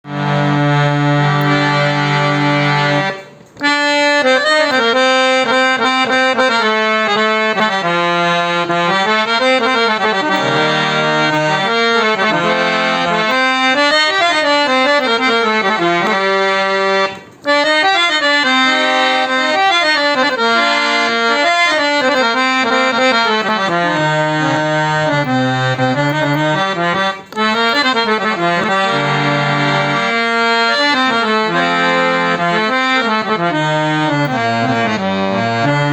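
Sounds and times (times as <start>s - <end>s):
harmonium playing melody: 0.0s - 35.9s.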